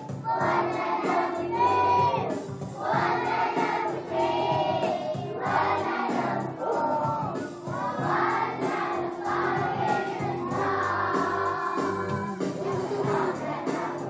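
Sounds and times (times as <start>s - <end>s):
young children singing together: 0.0s - 14.0s.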